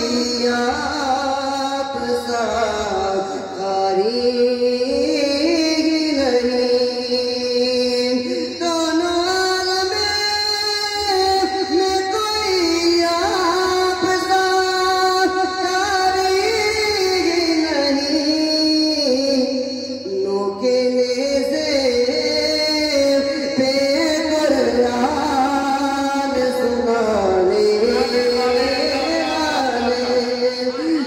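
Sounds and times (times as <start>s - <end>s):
man singing into microphone: 0.0s - 31.0s.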